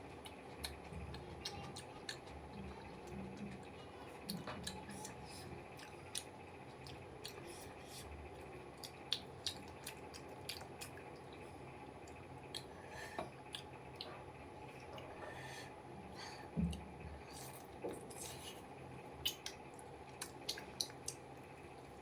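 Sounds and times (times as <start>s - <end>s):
chewing with wet mouth smacks: 0.0s - 12.8s, 13.4s - 15.1s, 16.7s - 22.0s
faint steady hum: 0.0s - 22.0s.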